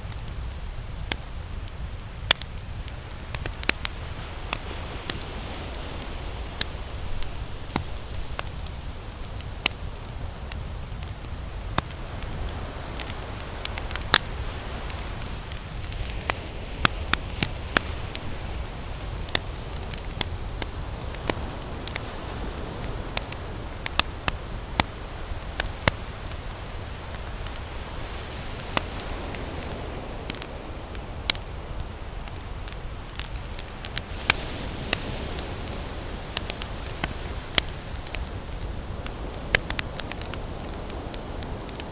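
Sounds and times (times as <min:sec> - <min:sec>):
campfire crackling and popping: 0:00.0 - 0:41.9
fire low rumble: 0:00.0 - 0:41.9.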